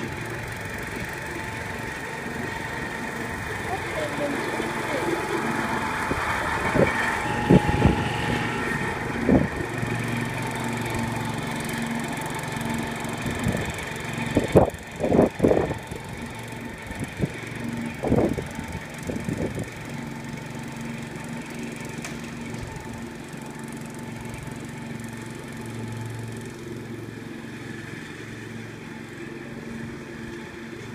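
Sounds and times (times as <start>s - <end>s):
tractor mower engine running: 0.0s - 30.9s.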